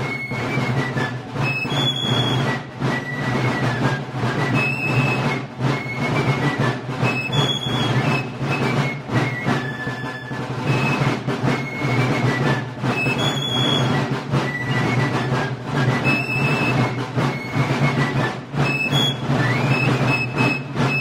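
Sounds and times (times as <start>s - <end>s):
side drum rolls: 0.0s - 21.0s.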